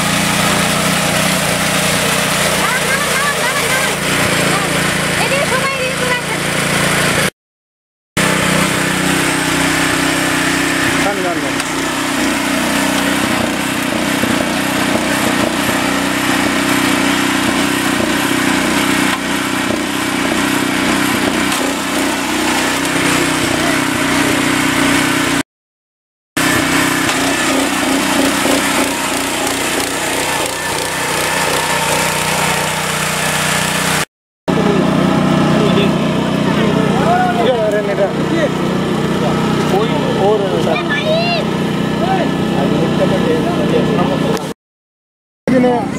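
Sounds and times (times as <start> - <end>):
small engine running: 0.0 - 7.3, 8.2 - 25.4, 26.4 - 44.5.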